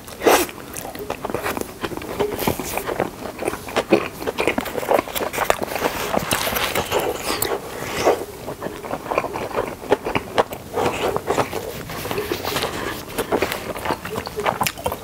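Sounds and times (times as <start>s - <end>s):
close chewing with crunches: 0.0s - 15.0s
mouth clicks: 0.2s - 15.0s.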